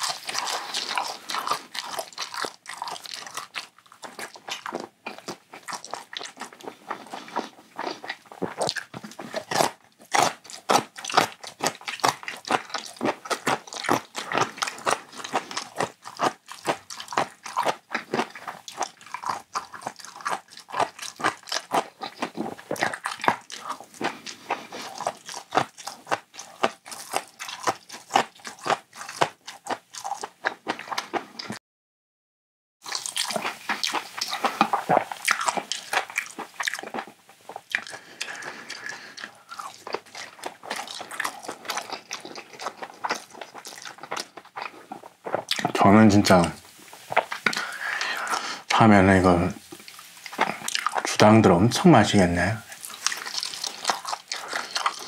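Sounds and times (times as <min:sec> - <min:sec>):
man chewing food: 0:00.0 - 0:31.6, 0:32.8 - 0:48.8, 0:49.5 - 0:51.4, 0:52.5 - 0:55.0.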